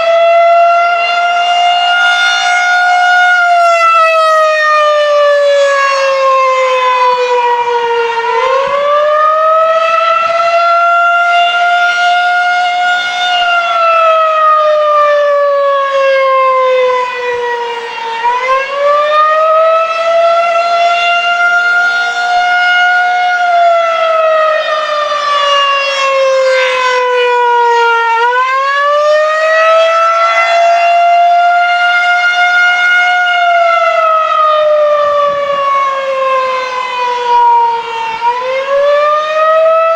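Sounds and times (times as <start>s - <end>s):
rotating siren wailing: 0.0s - 39.9s.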